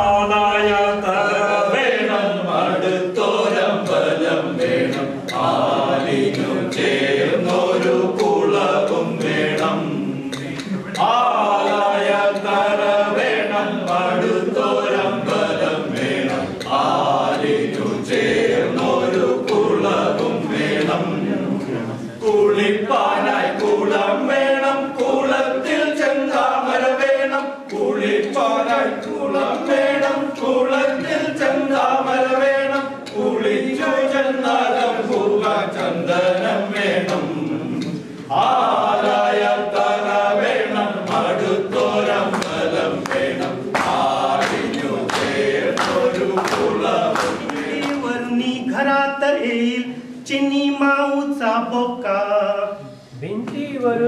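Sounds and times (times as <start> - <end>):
men singing together: 0.0 - 54.0.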